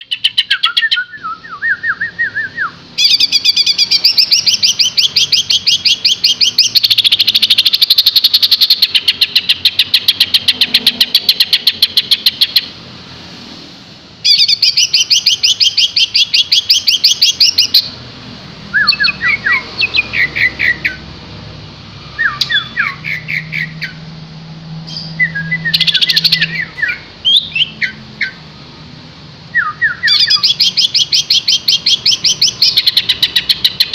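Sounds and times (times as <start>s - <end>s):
bird singing: 0.0s - 12.8s, 14.2s - 18.0s, 18.6s - 21.1s, 22.1s - 24.2s, 24.8s - 28.5s, 29.5s - 33.9s.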